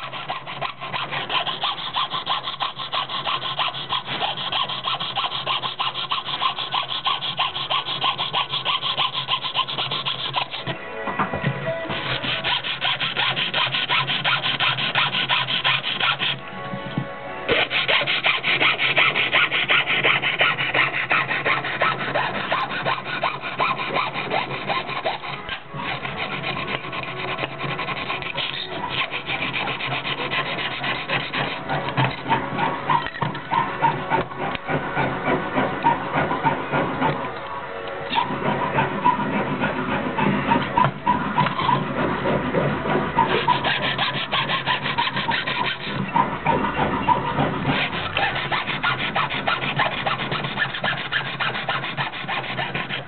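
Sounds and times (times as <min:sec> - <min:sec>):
saw rasping through sheet metal: 0:00.0 - 0:10.8, 0:11.8 - 0:16.4, 0:17.5 - 0:37.5, 0:38.1 - 0:53.0.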